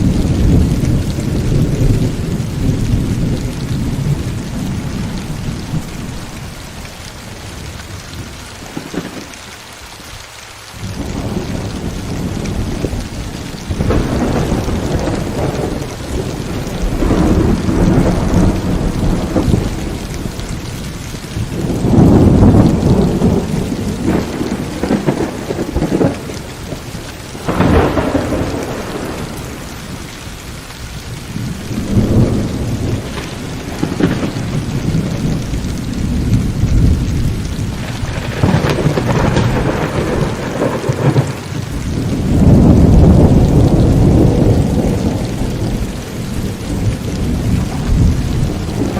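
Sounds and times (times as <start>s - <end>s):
thunder rumbling: 0.0s - 9.6s, 10.8s - 48.9s
heavy rain: 0.0s - 48.9s.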